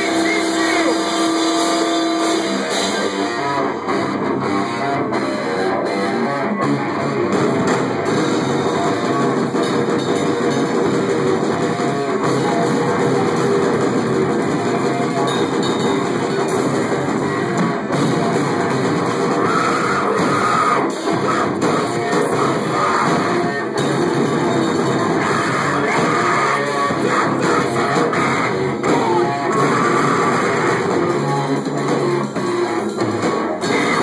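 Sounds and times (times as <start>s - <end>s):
heavy metal band playing live: 0.0s - 34.0s.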